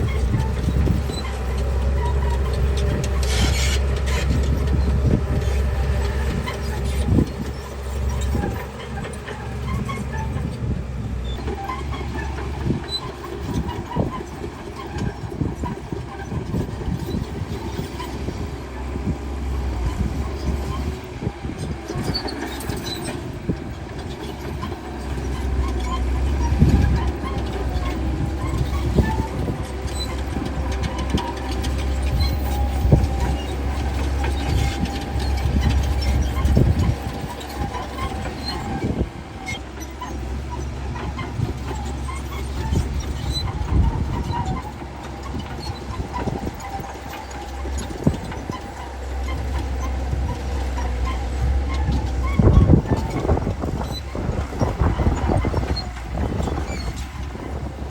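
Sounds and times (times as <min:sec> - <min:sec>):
diesel engine under load: 0:00.0 - 0:57.9
steel tracks clanking: 0:00.0 - 0:57.9.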